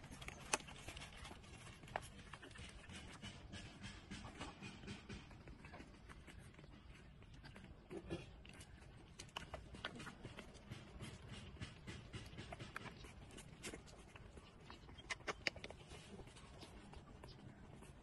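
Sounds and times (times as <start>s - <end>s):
puppies suckling: 0.0s - 18.0s.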